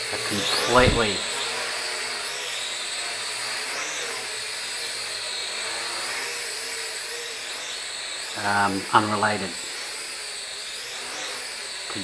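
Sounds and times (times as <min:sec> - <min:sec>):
toy quadcopter whining: 0:00.0 - 0:12.0.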